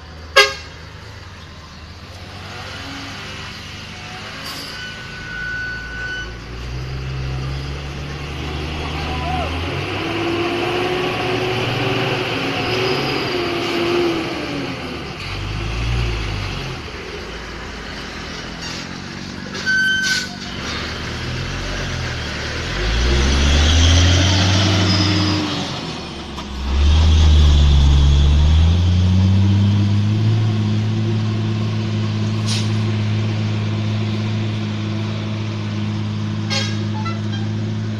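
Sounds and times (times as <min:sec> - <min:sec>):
diesel truck engines labouring: 0:00.0 - 0:37.9.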